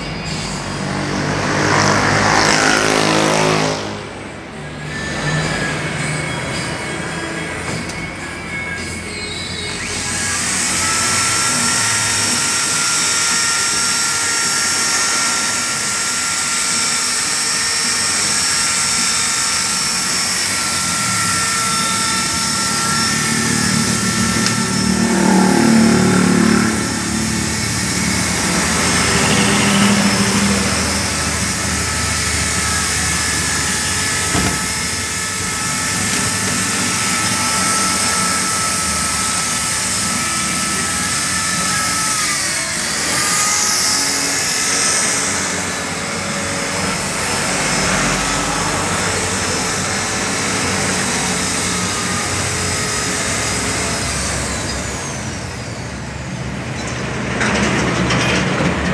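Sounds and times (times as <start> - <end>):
electric drill drilling into metal: 5.0 - 56.9.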